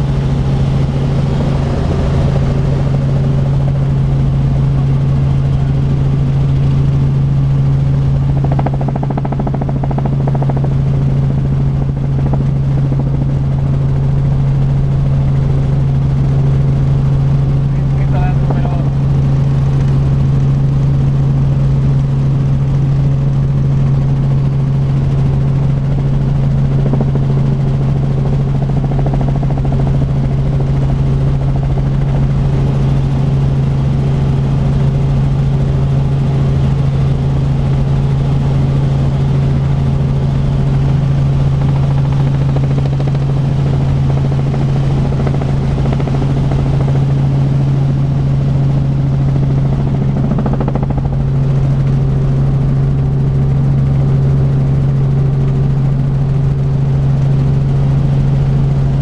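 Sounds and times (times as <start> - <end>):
helicopter engine and rotors droning: 0.0 - 59.0.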